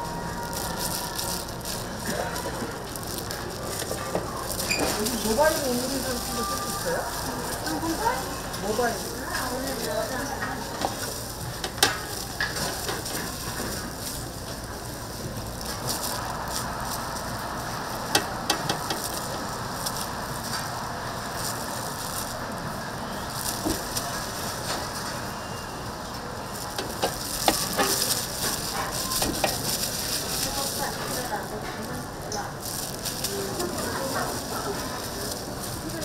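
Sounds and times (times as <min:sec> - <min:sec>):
meat patties sizzling: 0:00.0 - 0:36.0.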